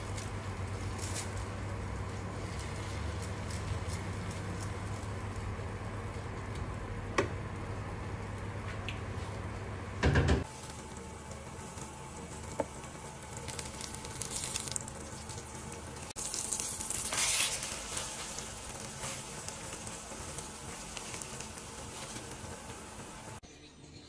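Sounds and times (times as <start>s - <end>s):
omelette sizzling in oil: 0.0s - 6.3s, 10.4s - 23.4s.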